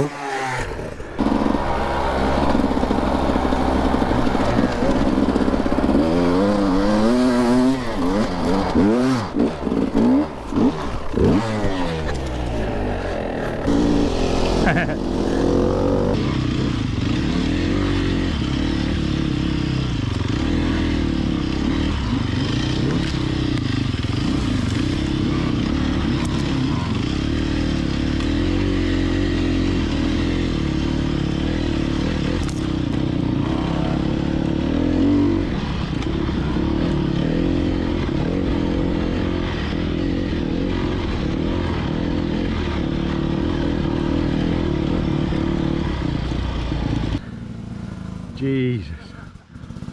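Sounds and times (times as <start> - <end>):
dirt bike engine revving: 0.0 - 48.3.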